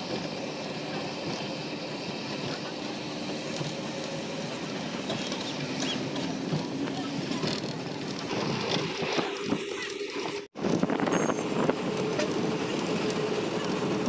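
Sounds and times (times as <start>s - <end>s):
bus engine hum: 0.0s - 14.0s
road and wind noise: 0.0s - 14.0s.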